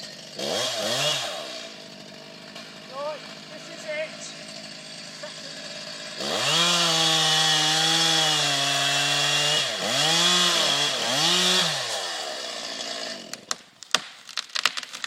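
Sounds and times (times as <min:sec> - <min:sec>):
chainsaw revving and cutting: 0:00.0 - 0:13.6.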